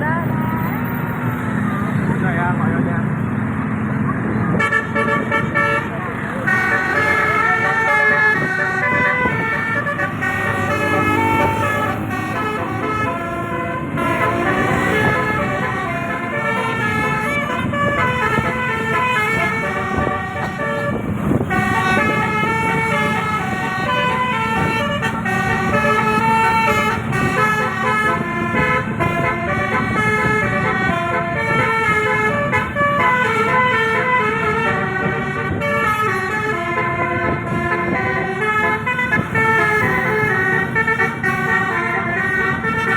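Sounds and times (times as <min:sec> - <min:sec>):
bus air horns playing tunes: 0:04.5 - 0:42.9.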